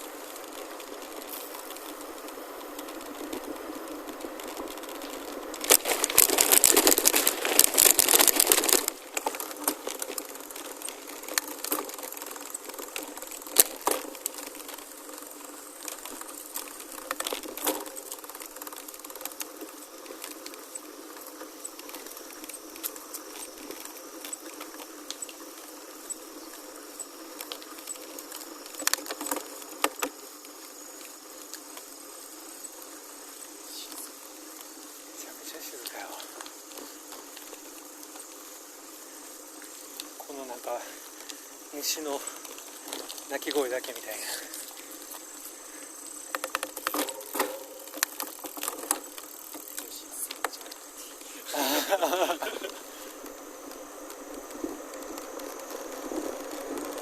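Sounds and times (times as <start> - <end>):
bike clicks and rattles: 0.0 - 57.0
bike tyres rolling on gravel: 0.0 - 57.0
insects buzzing and chirping: 0.0 - 57.0.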